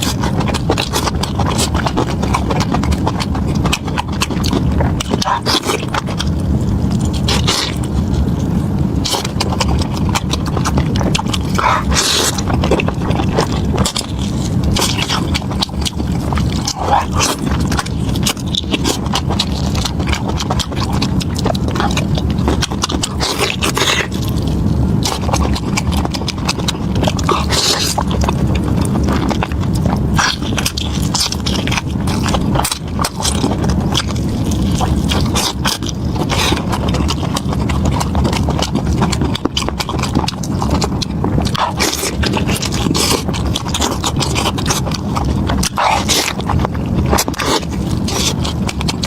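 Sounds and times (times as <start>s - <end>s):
chewing and mouth sounds: 0.0s - 49.0s
low rumble: 0.0s - 49.0s.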